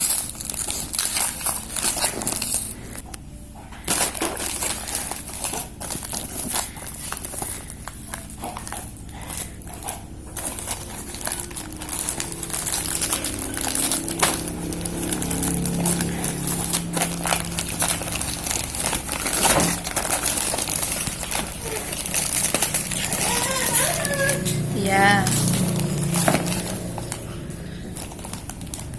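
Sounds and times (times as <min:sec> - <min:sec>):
packaging crinkling and rustling: 0:00.0 - 0:03.0, 0:03.8 - 0:28.9.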